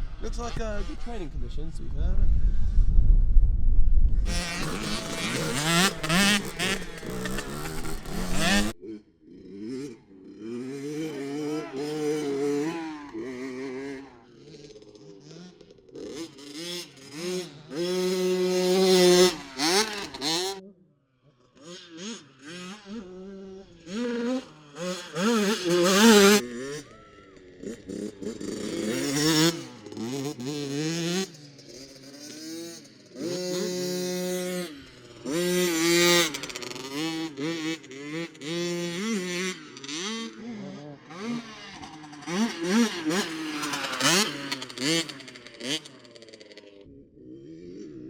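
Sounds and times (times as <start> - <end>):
motocross bike engines revving: 4.3 - 20.7, 21.3 - 48.0.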